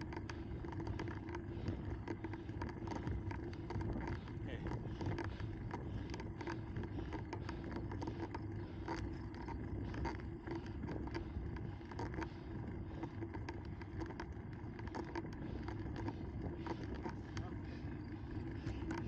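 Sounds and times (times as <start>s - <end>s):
bicycle tyres rumbling on asphalt: 0.0s - 19.0s
small clicks and rattles: 0.0s - 19.0s.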